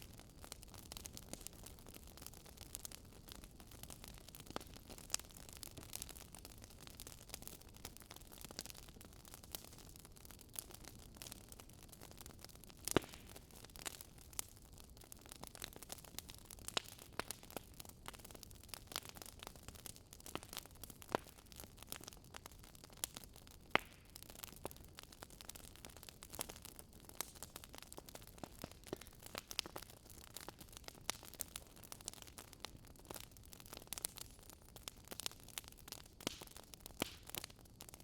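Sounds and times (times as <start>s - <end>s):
firewood crackling: 0.0s - 38.0s.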